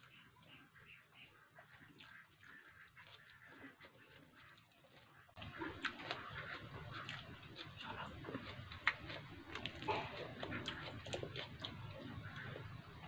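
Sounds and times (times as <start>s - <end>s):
chewing with wet smacks: 0.0s - 13.0s.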